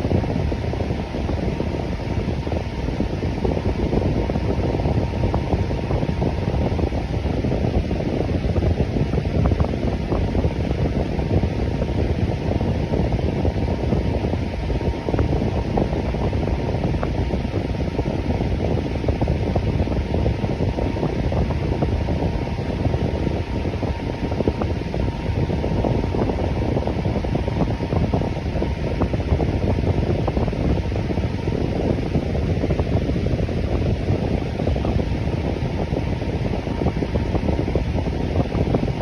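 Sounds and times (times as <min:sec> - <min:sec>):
electric fan running: 0:00.0 - 0:39.0.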